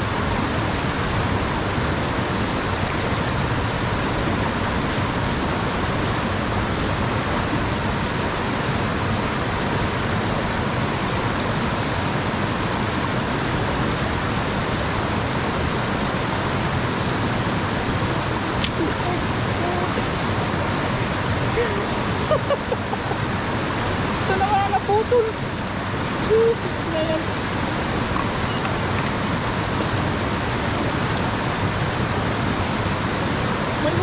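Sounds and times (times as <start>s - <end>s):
rushing water: 0.0s - 34.0s.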